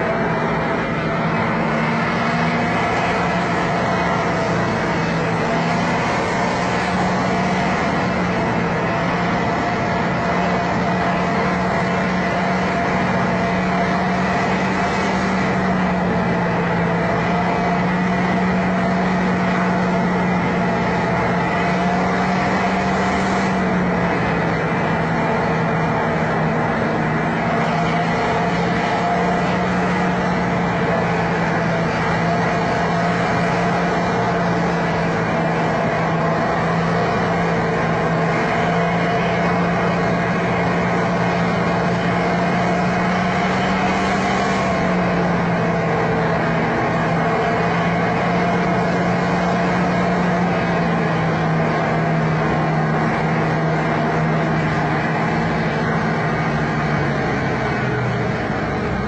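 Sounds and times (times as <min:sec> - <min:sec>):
truck engine running under load: 0:00.0 - 0:59.0.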